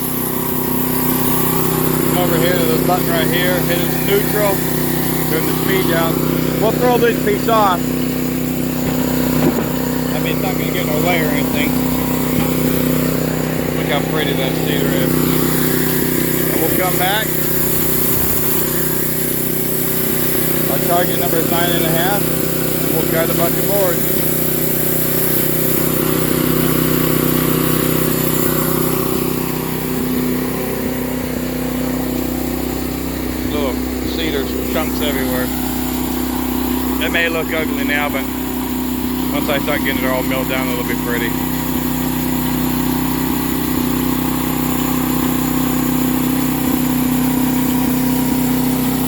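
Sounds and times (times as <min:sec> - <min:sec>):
sawmill engine humming: 0:00.0 - 0:49.0.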